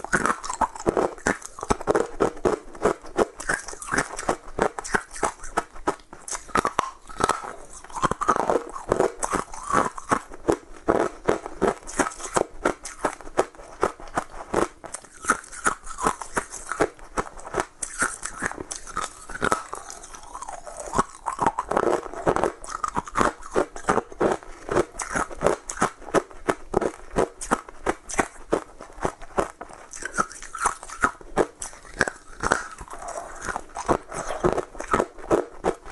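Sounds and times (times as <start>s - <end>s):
ice crunching while chewed: 0.0s - 35.9s.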